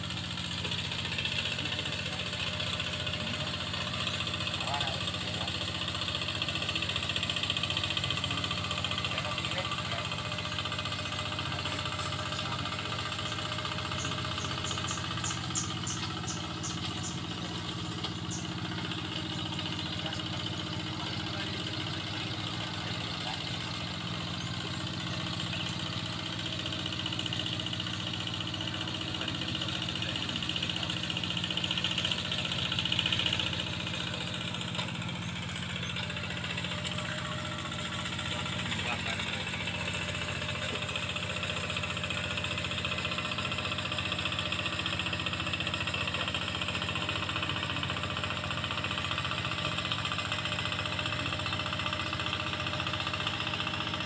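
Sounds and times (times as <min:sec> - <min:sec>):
hand tractor engine running: 0:00.0 - 0:54.0.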